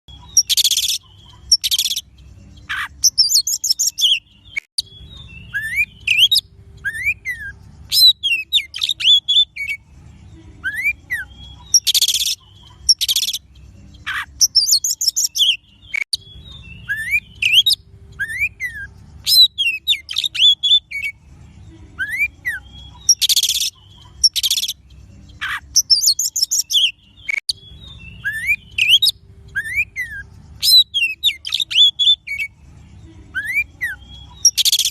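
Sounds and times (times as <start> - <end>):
songbird whistling song: 0.1 - 9.8, 10.6 - 34.9.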